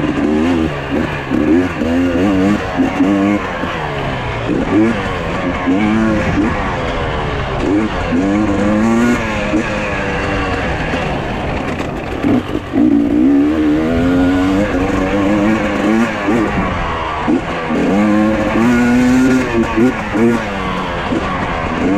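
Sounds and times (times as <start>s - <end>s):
dirt bike engines revving: 0.0s - 21.9s.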